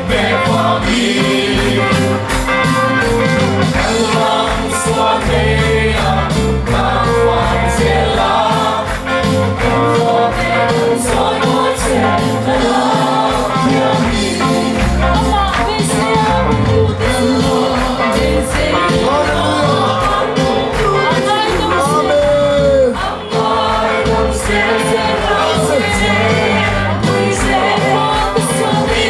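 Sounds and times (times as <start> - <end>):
group singing gospel song: 0.0 - 29.0
steady drum beat: 0.0 - 29.0.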